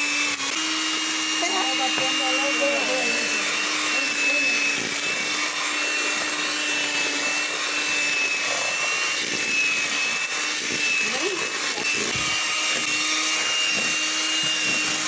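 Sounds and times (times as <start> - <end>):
electric hand mixer whining: 0.0 - 15.0.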